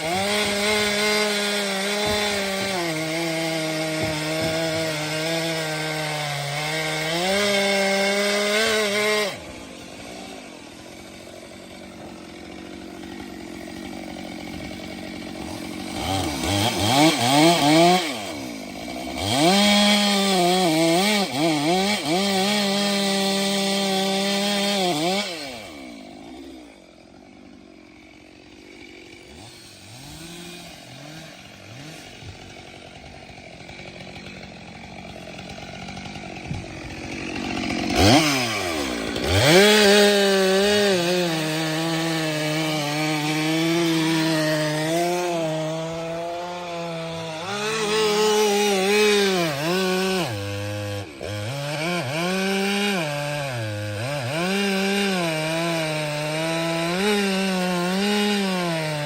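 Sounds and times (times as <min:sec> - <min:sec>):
chainsaw cutting firewood: 0:00.0 - 0:59.0.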